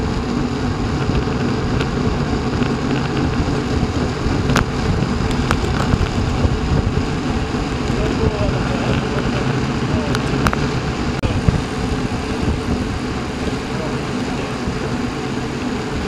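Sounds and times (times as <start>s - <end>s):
tyre and road noise: 0.0s - 16.0s
wind on microphone: 0.0s - 16.0s.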